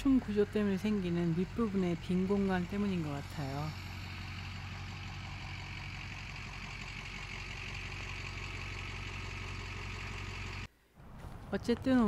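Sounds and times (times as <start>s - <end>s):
diesel engine idling: 0.0s - 10.7s.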